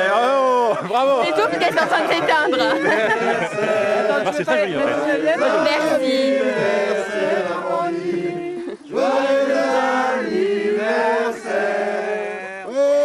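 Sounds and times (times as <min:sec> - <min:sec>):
group of people singing: 0:01.2 - 0:13.0.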